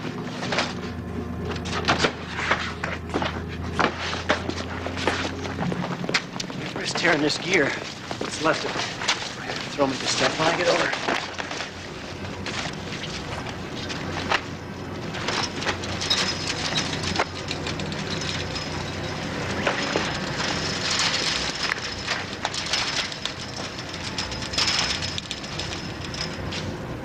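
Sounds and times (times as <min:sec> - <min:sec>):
chain-link fence rattling: 0:00.0 - 0:27.0.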